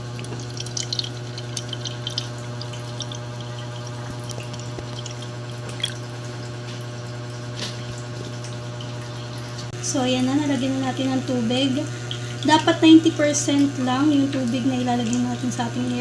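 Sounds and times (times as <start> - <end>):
steady low hum: 0.0 - 16.0
water trickling and dripping: 0.0 - 16.0.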